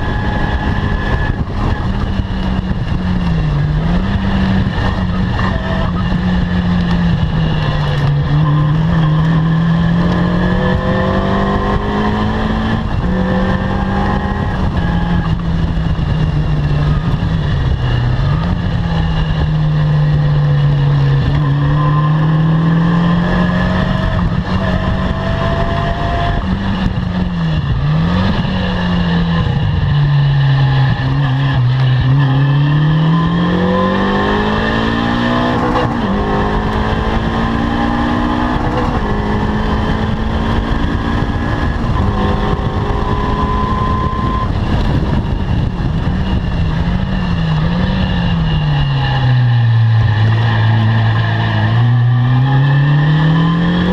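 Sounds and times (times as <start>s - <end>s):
car engine revving hard: 0.0s - 53.9s.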